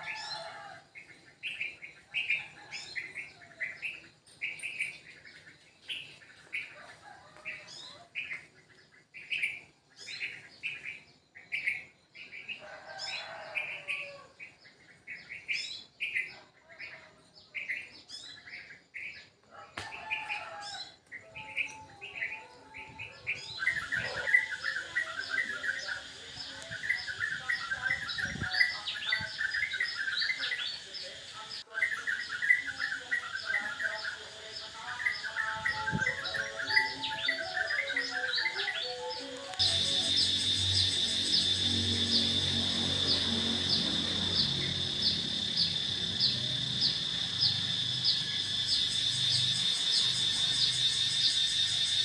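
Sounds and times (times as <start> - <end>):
small birds chirping: 0.0 - 12.7, 13.3 - 52.0
chorus of birds chattering: 0.0 - 52.0.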